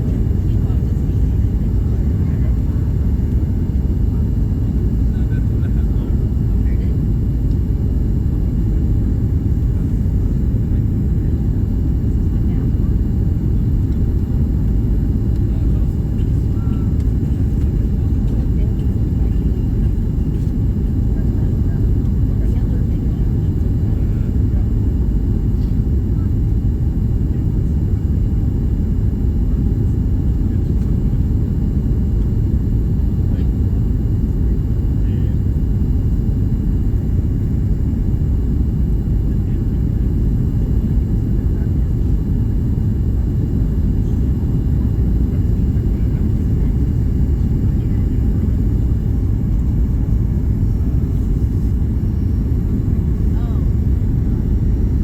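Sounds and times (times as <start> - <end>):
airliner engine and airflow rumble: 0.0 - 55.0.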